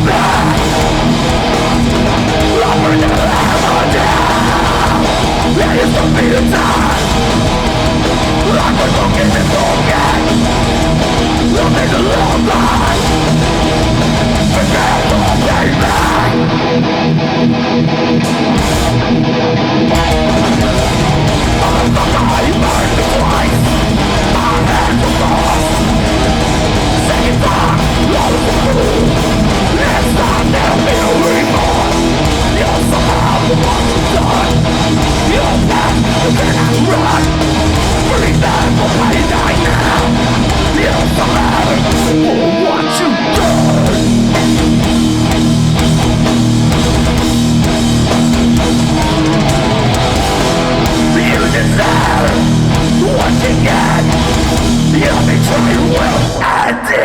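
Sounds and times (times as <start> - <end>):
metal band playing live: 0.0 - 57.0.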